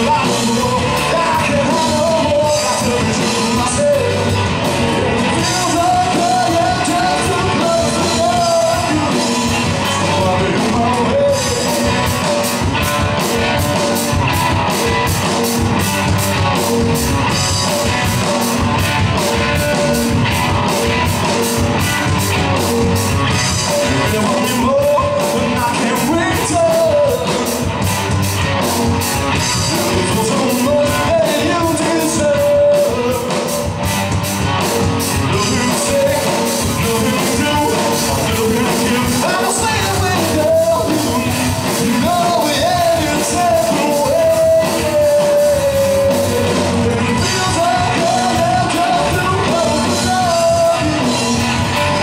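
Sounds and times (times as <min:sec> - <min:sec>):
bass guitar: 0:00.0 - 0:52.0
drum kit with cymbals: 0:00.0 - 0:52.0
electric guitars: 0:00.0 - 0:52.0
person singing lead vocals: 0:00.0 - 0:52.0.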